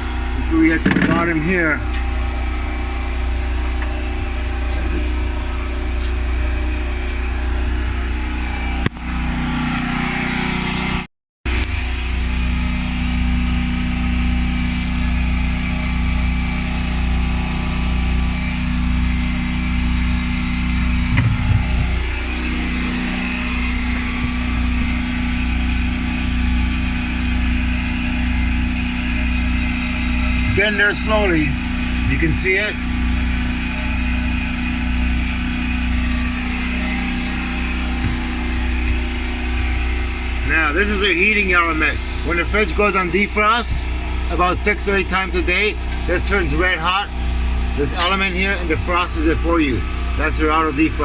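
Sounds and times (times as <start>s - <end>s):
loud mechanical hum: 0.0s - 51.0s.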